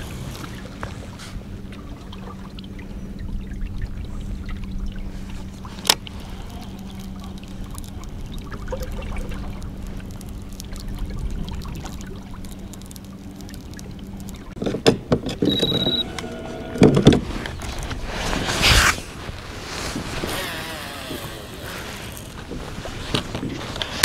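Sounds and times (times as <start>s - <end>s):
water lapping against kayak hull: 0.0s - 14.8s, 15.9s - 24.0s
steady low hum: 0.0s - 24.0s.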